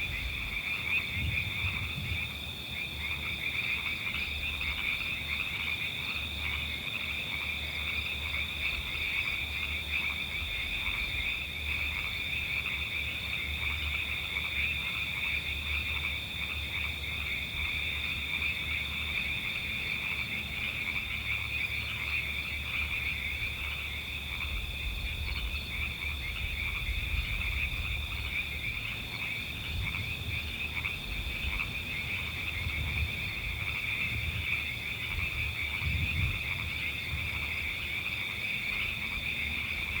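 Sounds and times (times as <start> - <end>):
frog chorus trilling: 0.0 - 40.0.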